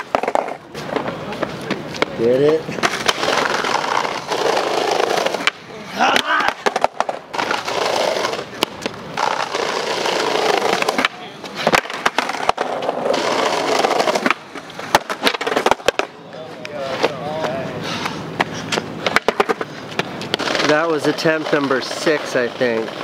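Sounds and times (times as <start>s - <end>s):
skateboard clicks and knocks: 0.0s - 23.0s
skateboard wheels rolling on stone: 0.0s - 23.0s.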